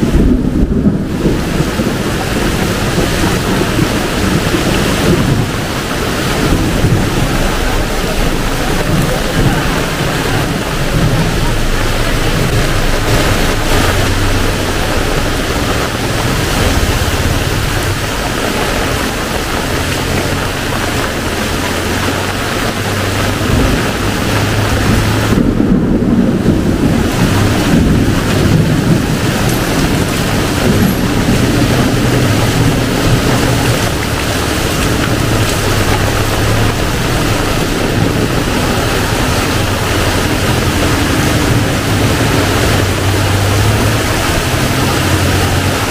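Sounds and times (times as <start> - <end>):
heavy rain hissing: 0.0 - 45.9
low rumble: 0.0 - 45.9.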